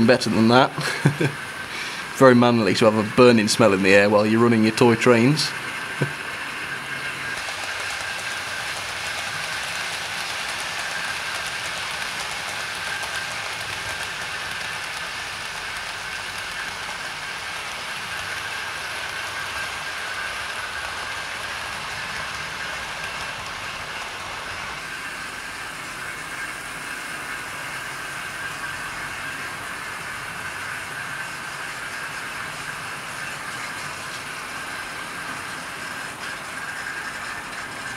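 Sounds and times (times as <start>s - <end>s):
model trains whirring on rails: 0.0s - 37.9s.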